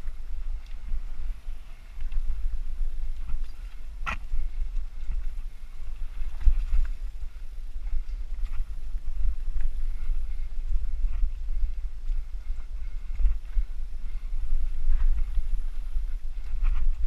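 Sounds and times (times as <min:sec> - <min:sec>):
bike trail chatter: 0:00.0 - 0:17.0
wind rumble on microphone: 0:00.0 - 0:17.0.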